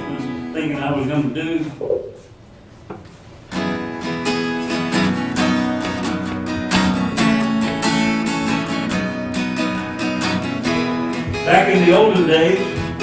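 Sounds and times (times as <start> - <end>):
strummed acoustic guitar: 0.0 - 1.8, 3.5 - 13.0.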